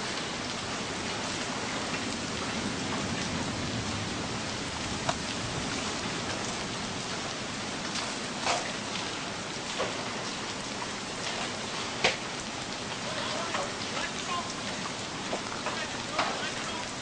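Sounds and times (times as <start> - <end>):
rain hiss: 0.0 - 17.0
wind: 0.0 - 17.0.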